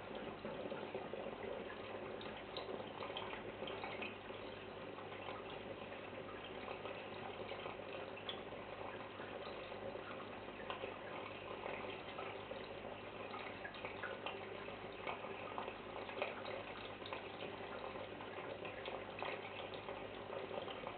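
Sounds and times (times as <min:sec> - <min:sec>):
aquarium water bubbling: 0:00.0 - 0:20.9
pump humming: 0:00.0 - 0:20.9
small crackles and ticks: 0:00.0 - 0:20.9.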